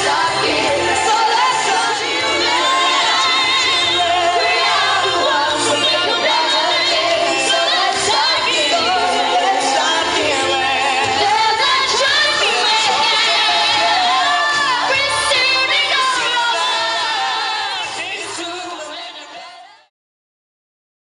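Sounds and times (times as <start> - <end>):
musical accompaniment: 0.0 - 19.8.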